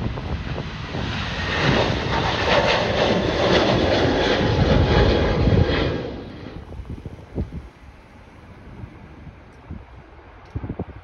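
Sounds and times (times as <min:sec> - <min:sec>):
jet engines at takeoff: 0:00.0 - 0:11.0.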